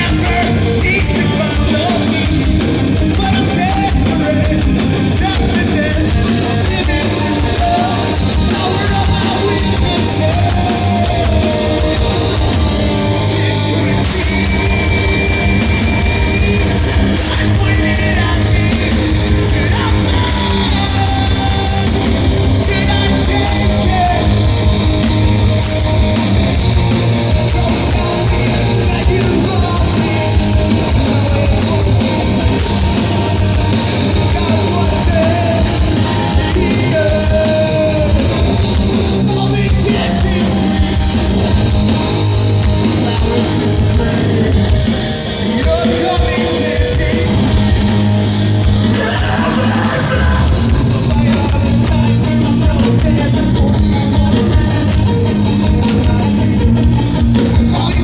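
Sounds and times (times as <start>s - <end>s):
live heavy rock band: 0.0s - 58.0s.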